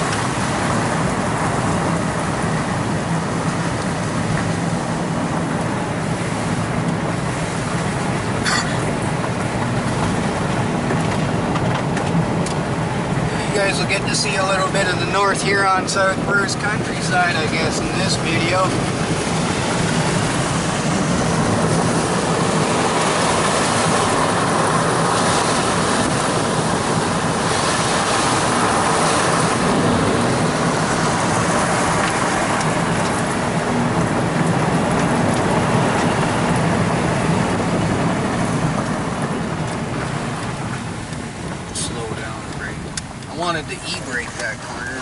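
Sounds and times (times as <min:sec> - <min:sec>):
car engine: 0:00.0 - 0:45.0
tyre noise on road: 0:00.0 - 0:45.0.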